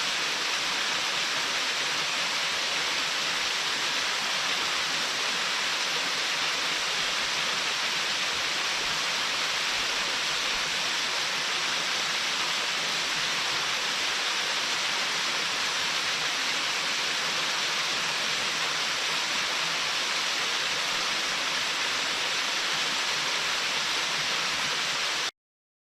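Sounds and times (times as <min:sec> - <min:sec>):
waterfall rushing: 0:00.0 - 0:25.3.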